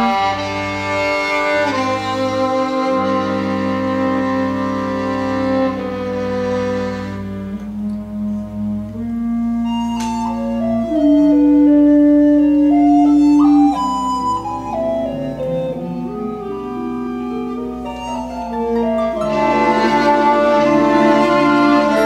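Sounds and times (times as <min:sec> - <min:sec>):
bowed strings: 0:00.0 - 0:22.0
low sustained notes: 0:00.0 - 0:22.0
slow woodwind melody: 0:00.0 - 0:22.0.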